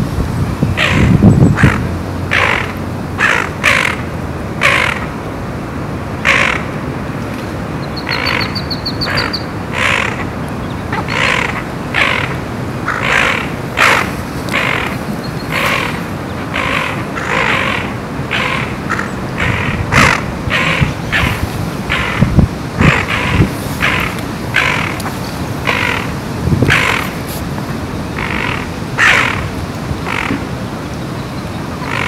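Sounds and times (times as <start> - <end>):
harsh caw-like bird calls: 0.8 - 5.1, 6.2 - 6.7, 8.0 - 10.3, 10.9 - 27.3, 28.0 - 30.5, 31.8 - 32.0.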